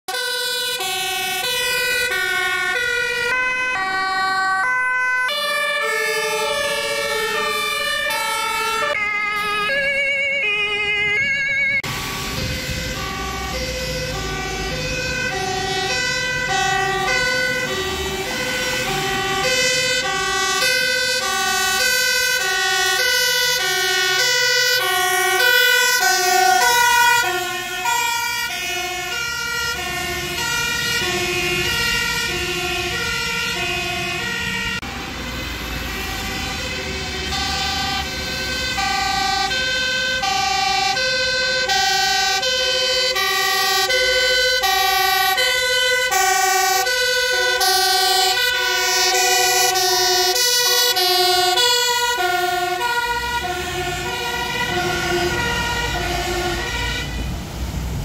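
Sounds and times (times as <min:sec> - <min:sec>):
two-tone sirens: 0:00.0 - 0:58.0
engine rumble: 0:01.3 - 0:58.0.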